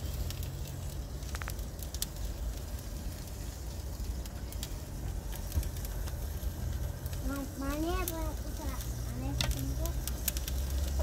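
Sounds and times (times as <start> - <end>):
crackles and clicks: 0.0 - 11.0
low rumble: 0.0 - 11.0.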